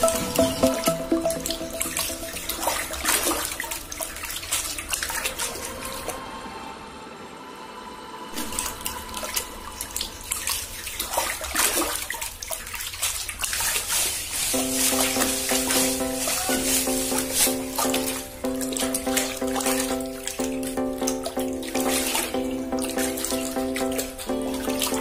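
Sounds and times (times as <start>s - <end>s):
muddy water splashing and sloshing: 0.0s - 6.2s, 8.4s - 25.0s.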